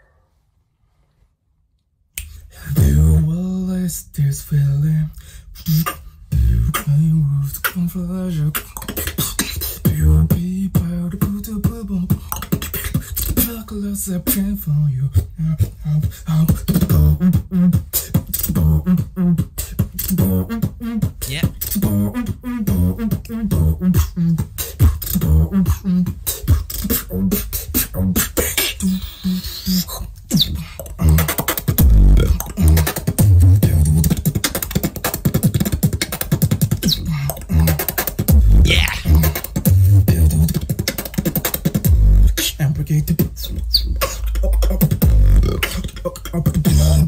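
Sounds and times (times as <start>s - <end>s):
deep bass beatbox hits: 2.2s - 3.4s, 5.0s - 47.0s
beatboxing: 2.2s - 47.0s.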